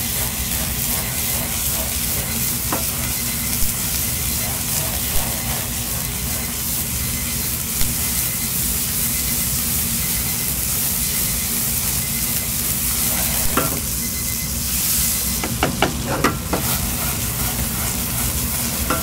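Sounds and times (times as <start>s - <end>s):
noodles sizzling in a wok: 0.0s - 19.0s.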